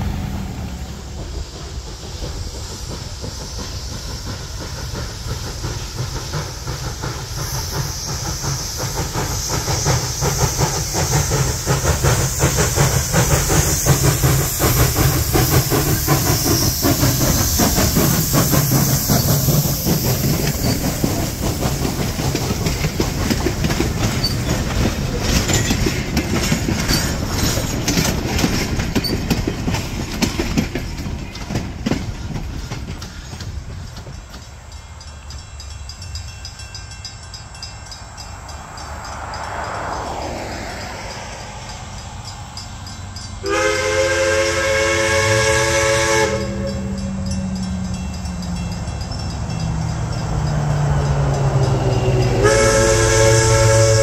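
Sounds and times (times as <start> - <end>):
steam hiss: 0.0 - 54.0
steam locomotive rumble: 0.0 - 54.0
train wheels clattering over rail joints: 0.4 - 54.0.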